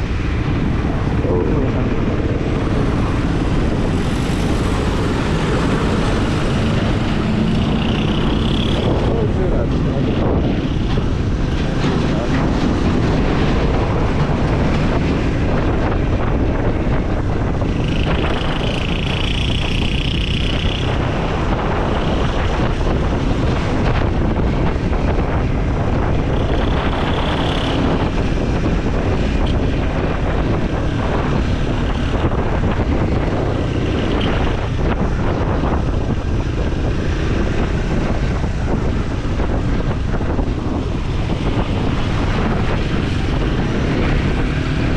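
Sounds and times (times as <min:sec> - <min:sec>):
wind rushing over microphone: 0:00.0 - 0:44.9
motorcycle engine running: 0:00.4 - 0:12.4, 0:14.3 - 0:44.9.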